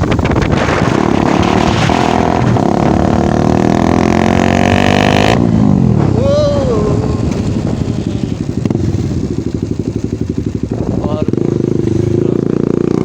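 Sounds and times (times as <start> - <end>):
loud motorcycle engine: 0.0 - 13.0.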